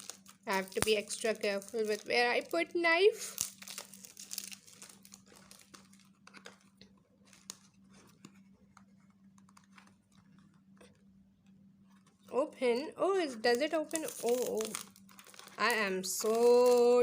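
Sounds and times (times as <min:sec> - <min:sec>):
low steady hum: 0:00.0 - 0:17.0
packaging clicks and crinkles: 0:00.0 - 0:17.0.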